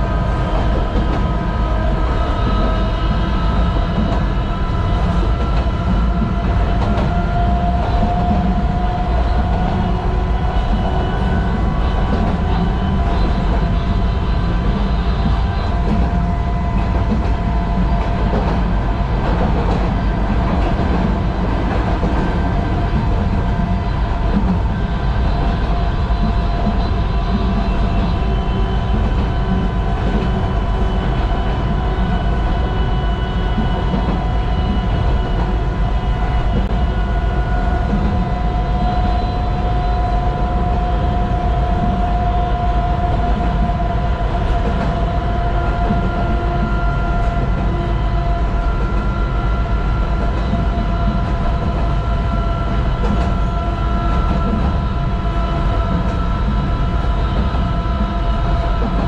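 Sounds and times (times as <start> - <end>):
electric train motor whine: 0.0 - 59.0
wheels rumbling on rail: 0.0 - 59.0.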